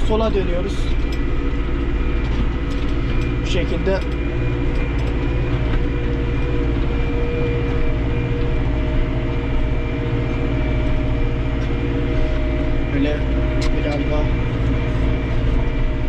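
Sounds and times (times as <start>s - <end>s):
thin steady whine: 0.0s - 16.0s
tractor diesel engine under load: 0.0s - 16.0s.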